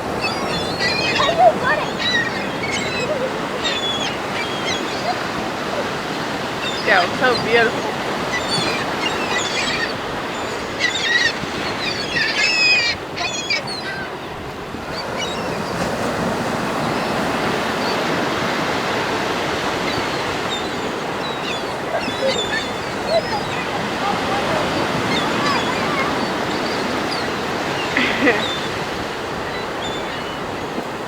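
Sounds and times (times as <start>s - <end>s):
flock of birds calling: 0.0s - 31.0s
surf washing onto beach: 0.0s - 31.0s.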